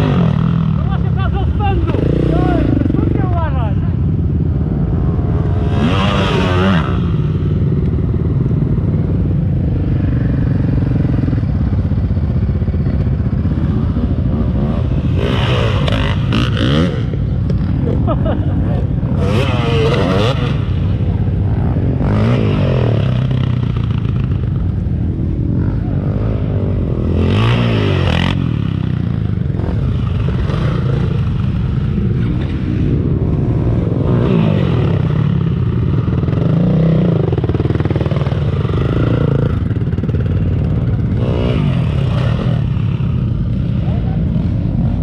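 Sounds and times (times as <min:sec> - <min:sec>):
quad and dirt bike engines revving: 0:00.0 - 0:45.0.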